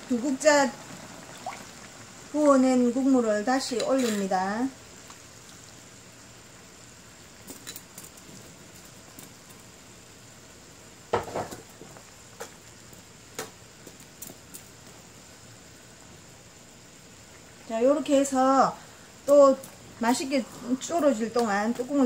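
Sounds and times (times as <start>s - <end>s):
pan simmering hiss: 0.0s - 22.0s.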